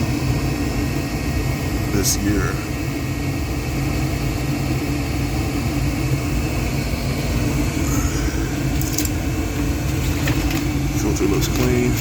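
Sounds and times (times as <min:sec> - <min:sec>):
gas furnace humming: 0:00.0 - 0:12.0.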